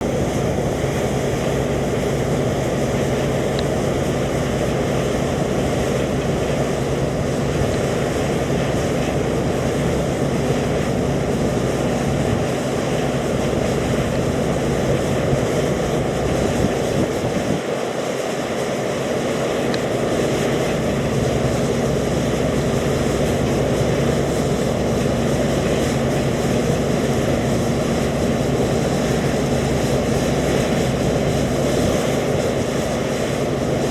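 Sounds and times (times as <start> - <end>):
combine harvester engine drone: 0.0 - 33.9.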